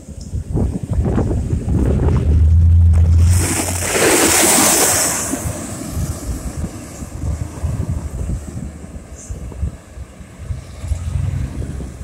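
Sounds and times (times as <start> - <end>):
vehicles driving with engine hum: 0.0 - 12.0.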